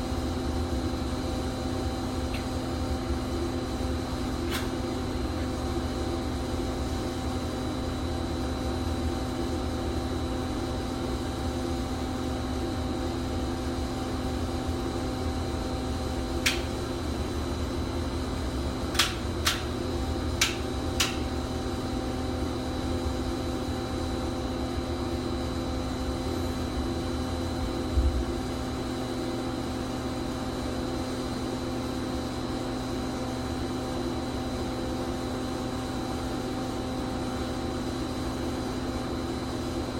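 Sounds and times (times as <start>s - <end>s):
pipe thawing machine humming: 0.0s - 39.9s.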